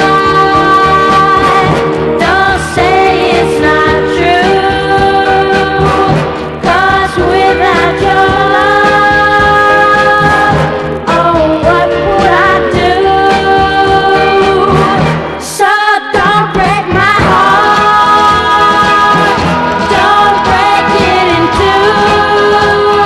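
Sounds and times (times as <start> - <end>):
pop band playing: 0.0 - 23.0
woman singing: 0.0 - 23.0.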